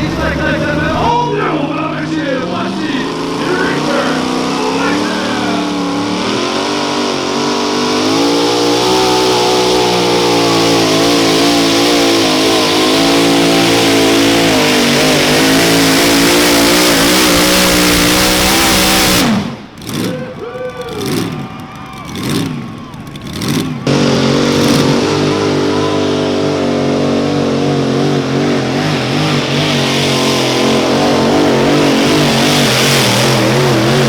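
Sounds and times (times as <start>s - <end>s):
tractor engine revving high: 0.0s - 34.0s.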